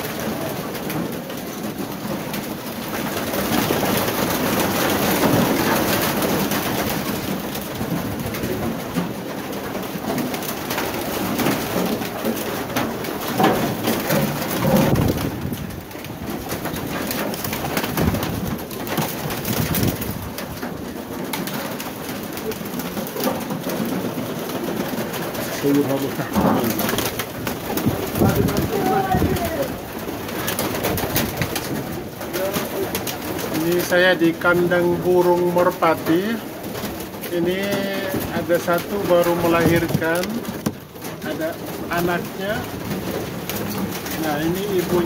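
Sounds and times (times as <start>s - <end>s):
wings flapping: 0.0s - 45.0s.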